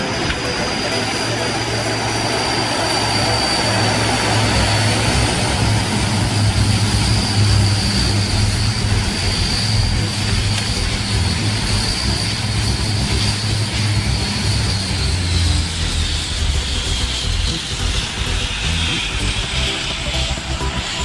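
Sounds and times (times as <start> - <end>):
high turbine whine: 0.0 - 21.0
turboprop engines droning: 0.0 - 21.0.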